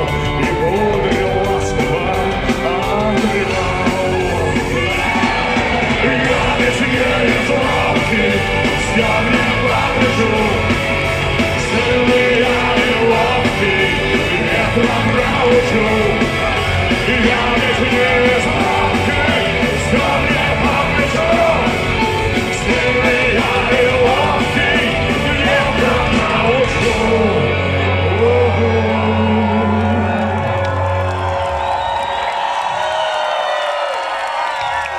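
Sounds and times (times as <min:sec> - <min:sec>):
live rock band playing: 0:00.0 - 0:31.6.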